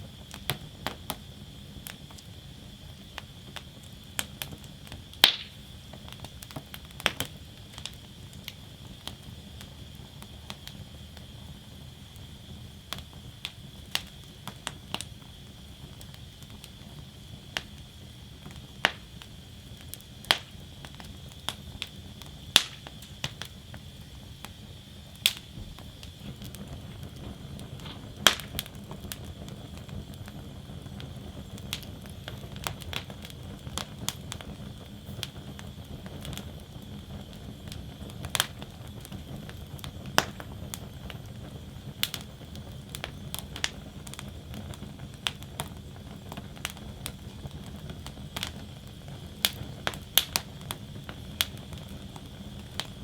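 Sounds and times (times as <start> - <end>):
flame rushing: 0.0 - 53.0
logs crackling and popping: 0.1 - 53.0.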